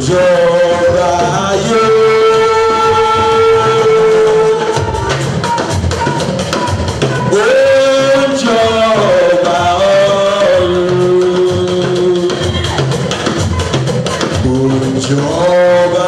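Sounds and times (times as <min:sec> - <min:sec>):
drums: 0:00.0 - 0:16.0
lead voice holding long notes: 0:00.0 - 0:16.0.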